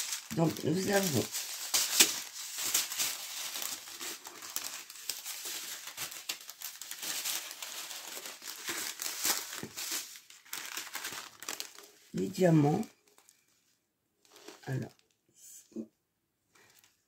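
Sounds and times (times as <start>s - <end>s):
plastic bags crinkling: 0.0s - 13.5s, 14.2s - 15.1s.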